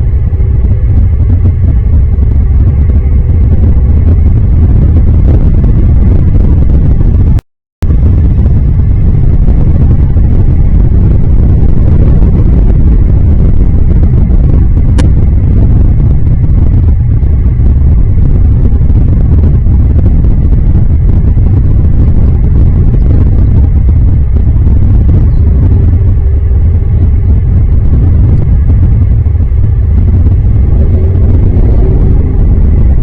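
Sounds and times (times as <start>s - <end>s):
steady low rumble: 0.0s - 33.0s.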